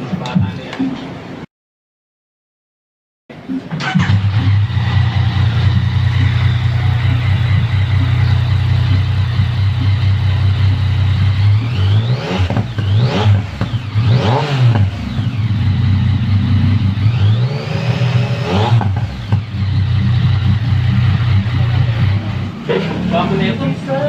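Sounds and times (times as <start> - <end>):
motorcycle engine revving: 3.7 - 24.0.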